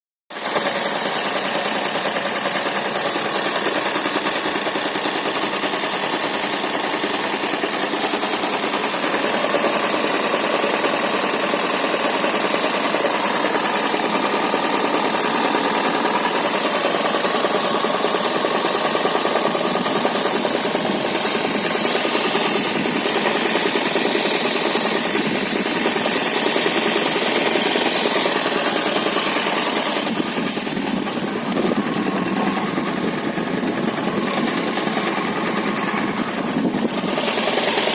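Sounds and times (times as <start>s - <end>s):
car engine knocking: 0.4s - 37.9s.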